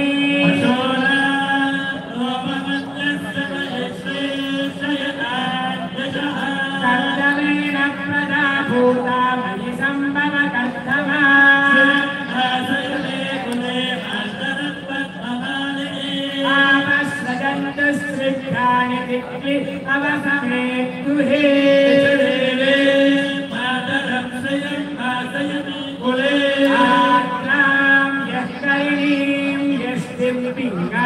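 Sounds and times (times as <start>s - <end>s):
voices chanting a hymn: 0.0s - 31.0s.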